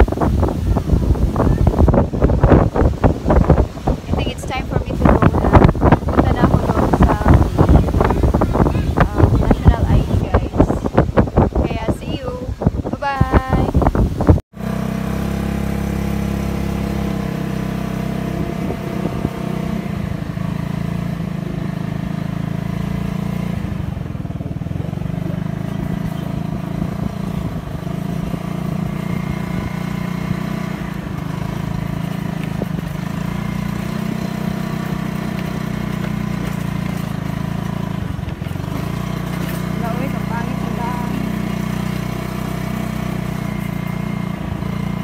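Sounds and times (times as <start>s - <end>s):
motorcycle engine droning: 0.0s - 45.0s.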